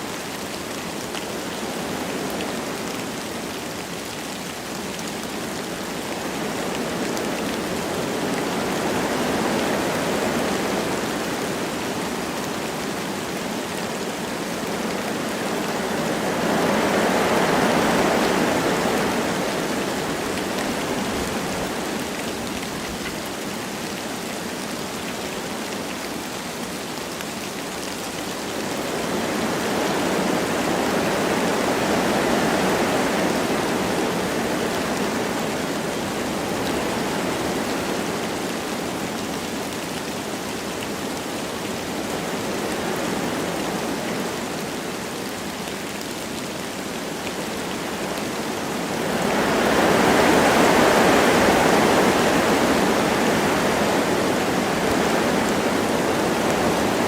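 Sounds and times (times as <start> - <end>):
light rain: 0.0 - 57.0
wind blowing through trees: 0.0 - 57.0.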